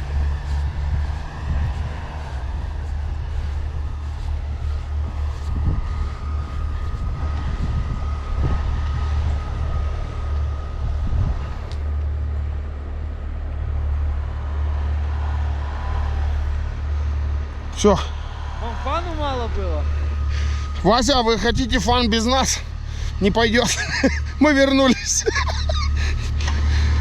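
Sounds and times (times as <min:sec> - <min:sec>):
off-road vehicle engine rumble: 0:00.0 - 0:27.0.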